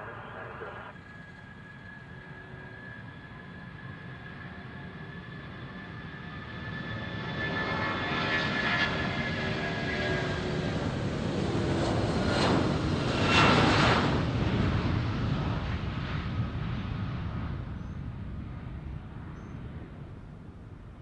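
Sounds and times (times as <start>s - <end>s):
jet engines passing with whine: 0.0s - 21.0s.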